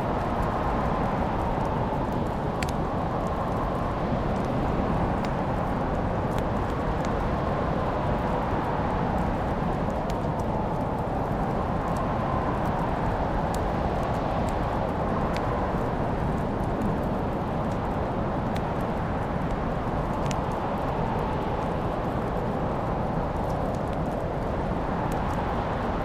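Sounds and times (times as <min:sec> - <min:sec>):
steady rushing noise: 0:00.0 - 0:26.0
fire crackling and popping: 0:00.1 - 0:26.0.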